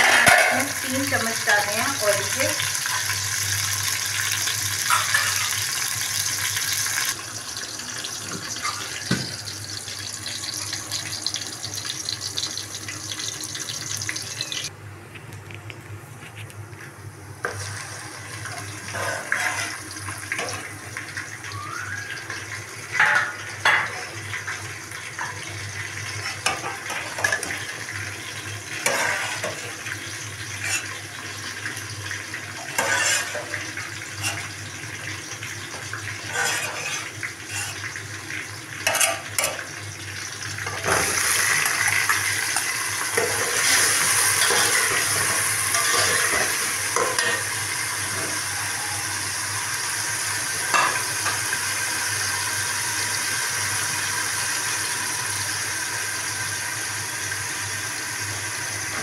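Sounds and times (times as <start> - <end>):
onions sizzling in hot oil: 0.0 - 14.7, 17.4 - 59.0.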